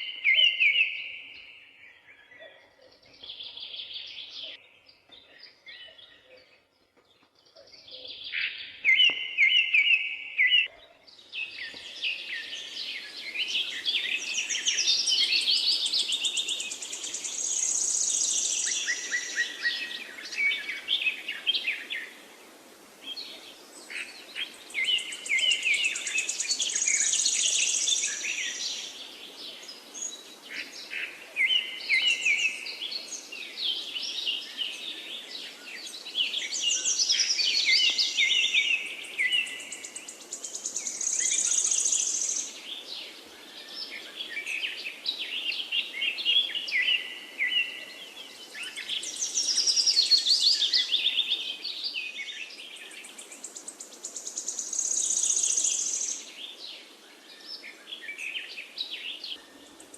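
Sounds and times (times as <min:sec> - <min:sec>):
forest birds singing: 0:00.0 - 0:59.9
background hiss: 0:08.1 - 0:59.9.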